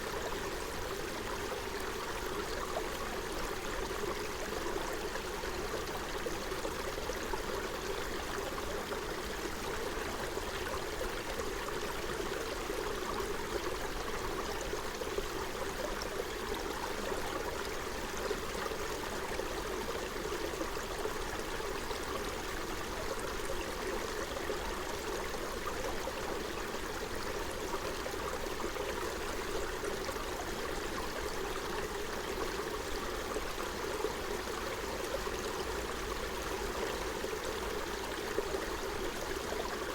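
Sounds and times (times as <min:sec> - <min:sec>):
stream running over its bed: 0:00.0 - 0:39.9.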